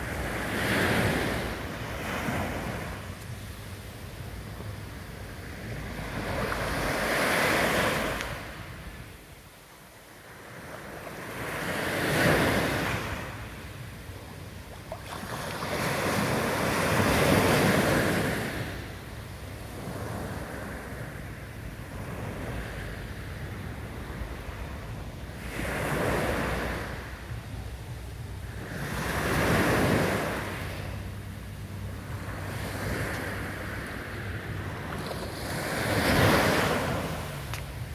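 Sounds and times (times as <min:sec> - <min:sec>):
small waves washing up sand beach: 0:00.0 - 0:37.9.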